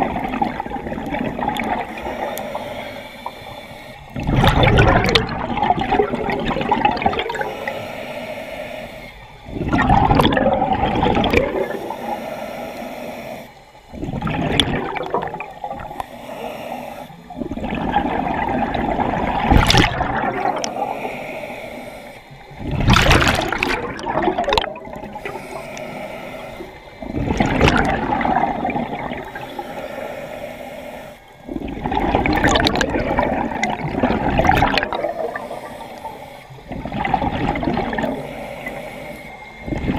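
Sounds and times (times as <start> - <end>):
diver breathing through regulator: 0.0 - 4.4, 5.1 - 19.2, 20.1 - 39.9
exhaled bubbles gurgling: 0.0 - 7.8, 9.4 - 12.4, 13.9 - 16.5, 17.1 - 21.4, 22.4 - 29.8, 31.4 - 39.9.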